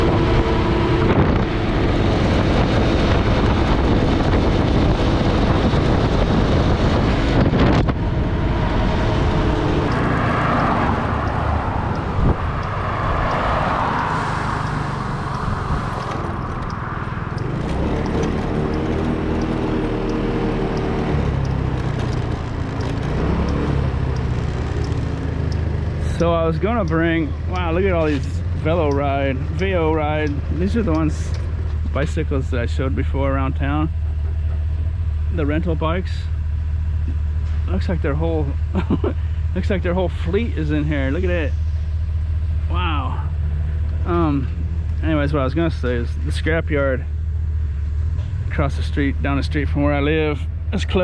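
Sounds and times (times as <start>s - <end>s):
road noise: 0.0s - 51.0s
vehicle engine rumble: 0.0s - 51.0s.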